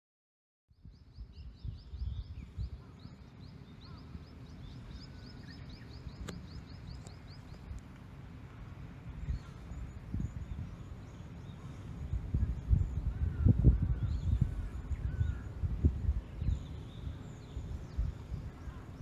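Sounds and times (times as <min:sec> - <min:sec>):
low outdoor rumble: 0:01.1 - 0:19.0.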